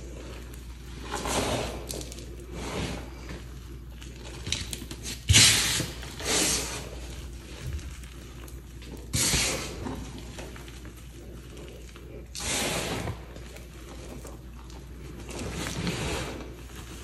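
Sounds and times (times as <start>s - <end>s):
hands scrunching chalk powder: 0.0s - 17.0s.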